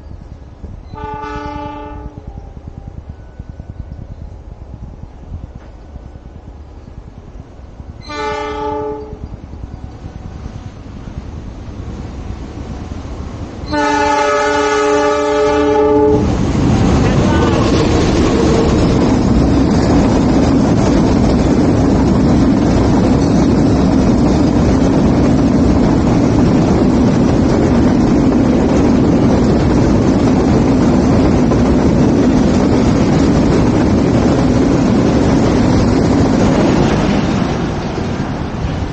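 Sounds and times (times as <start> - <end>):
train rumbling past: 0.0 - 38.9
wind noise on microphone: 0.0 - 38.9.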